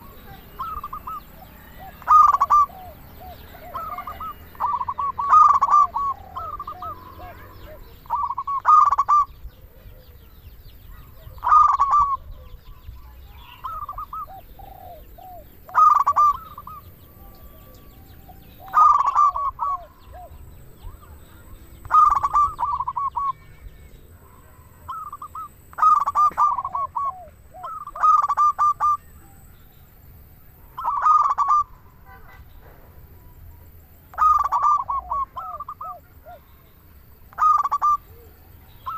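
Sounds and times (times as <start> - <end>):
dove cooing: 0.0 - 29.6, 30.6 - 32.5, 34.1 - 36.6, 37.3 - 38.9.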